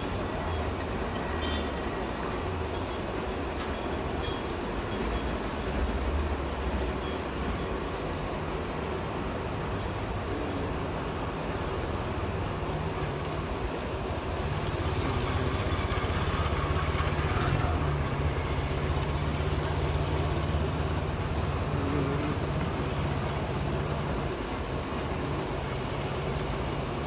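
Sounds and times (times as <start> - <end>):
road noise: 0.0 - 27.0
vehicle engines humming: 0.0 - 27.0.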